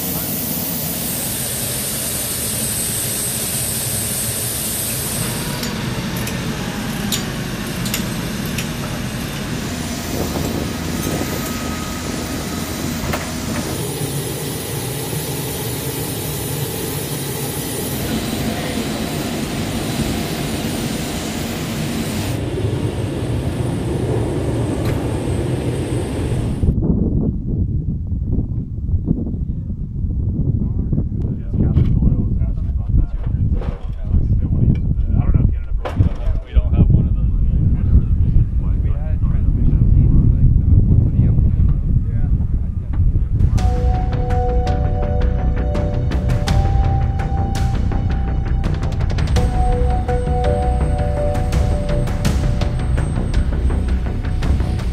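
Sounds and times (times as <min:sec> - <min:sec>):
ground support equipment running: 0:00.0 - 0:26.8, 0:37.0 - 0:54.9
jet engines running: 0:00.0 - 0:26.8, 0:37.0 - 0:54.9.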